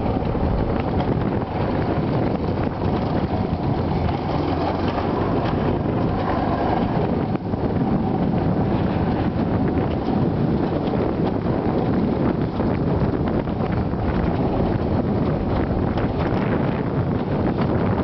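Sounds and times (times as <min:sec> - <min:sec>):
coaster sled rumbling on steel track: 0:00.0 - 0:18.0
wind buffeting microphone: 0:00.0 - 0:18.0.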